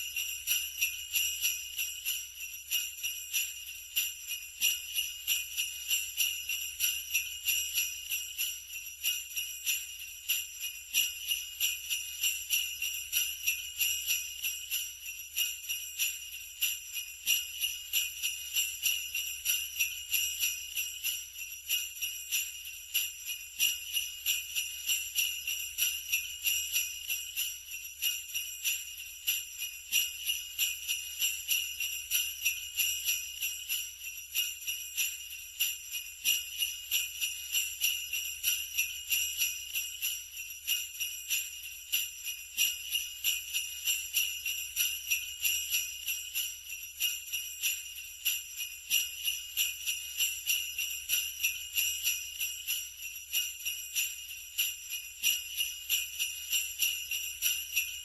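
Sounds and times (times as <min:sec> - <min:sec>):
sleigh bells jingling: 0:00.0 - 0:58.0.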